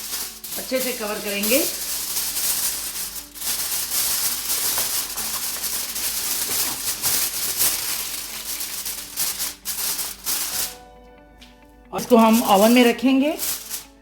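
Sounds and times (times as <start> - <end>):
aluminium foil crinkling: 0.0 - 10.8, 12.0 - 14.0.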